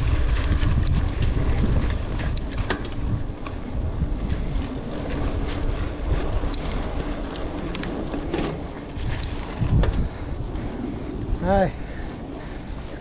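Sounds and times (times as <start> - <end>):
bike clicks and rattles: 0.0 - 13.0
bike tyres on dirt: 0.0 - 13.0
wind rumbling on microphone: 0.0 - 13.0.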